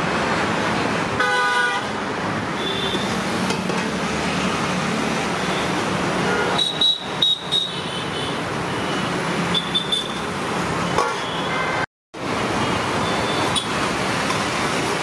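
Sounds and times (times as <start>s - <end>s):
roadside traffic noise: 0.0s - 15.0s.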